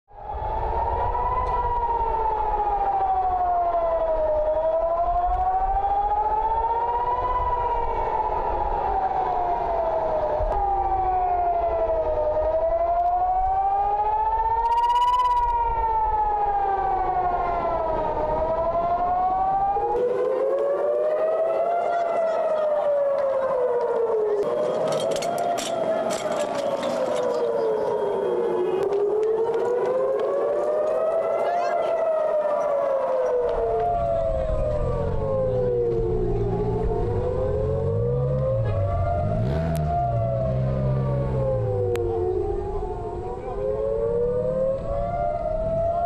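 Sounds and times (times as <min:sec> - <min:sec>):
air raid siren wailing: 0:00.1 - 0:46.0.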